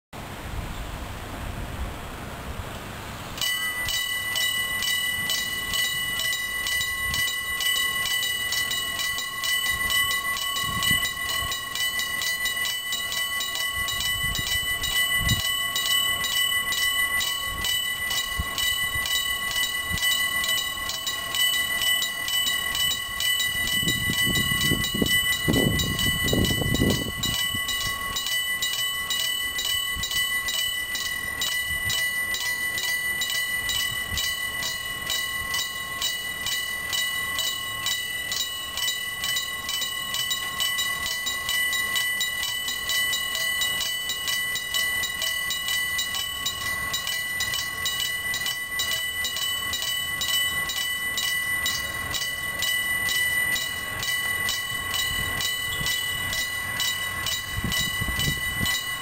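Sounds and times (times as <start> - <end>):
level-crossing alarm bell ringing: 3.4 - 59.0.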